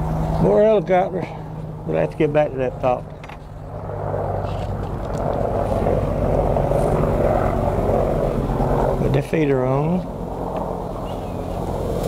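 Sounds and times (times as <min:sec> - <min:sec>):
helicopter flying over: 0:00.0 - 0:12.0.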